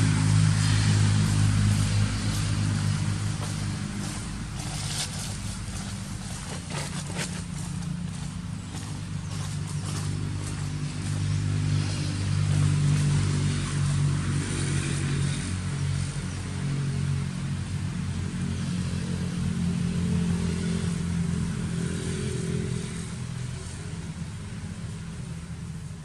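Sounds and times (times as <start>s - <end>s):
motor engine droning: 0.0s - 26.0s.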